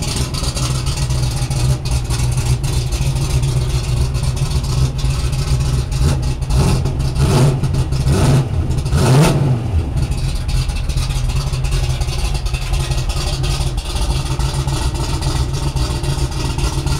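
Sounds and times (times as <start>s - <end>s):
drag car engine revving: 0.0s - 16.9s.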